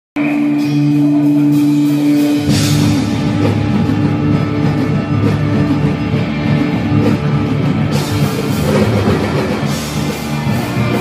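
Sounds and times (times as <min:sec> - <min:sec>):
rock band music: 0:00.2 - 0:11.0.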